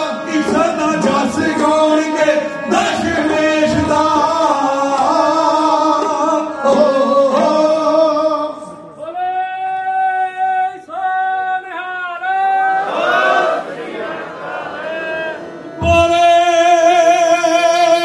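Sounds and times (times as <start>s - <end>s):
devotional singing with music: 0.0s - 18.0s.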